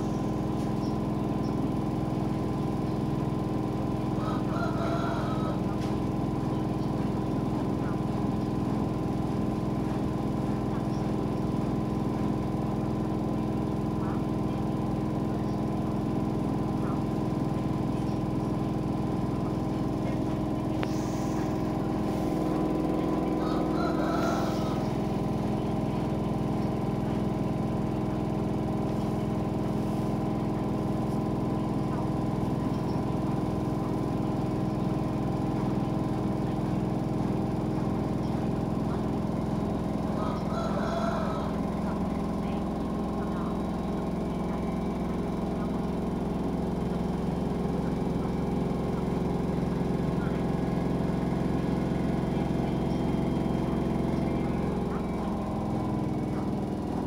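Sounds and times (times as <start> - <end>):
washing machine motor humming: 0.0 - 57.0.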